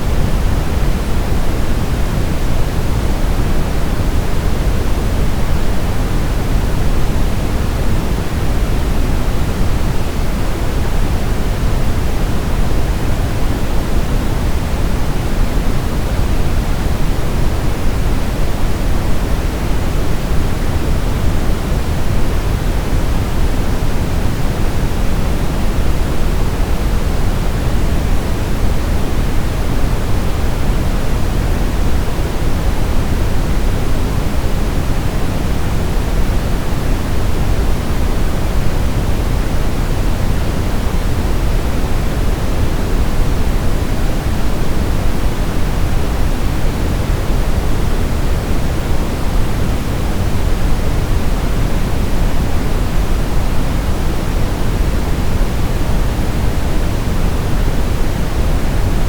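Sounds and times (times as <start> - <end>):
brown noise rushing hiss: 0.0 - 59.0.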